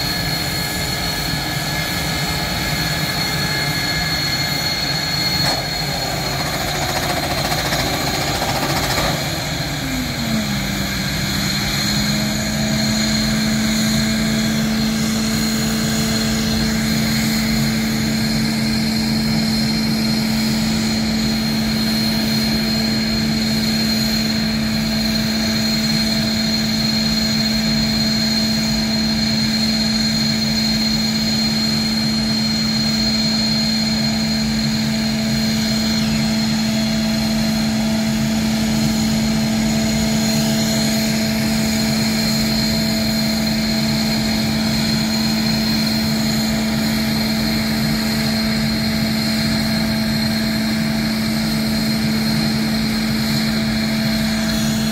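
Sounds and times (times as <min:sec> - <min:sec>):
jet turbine idling: 0:00.0 - 0:54.9.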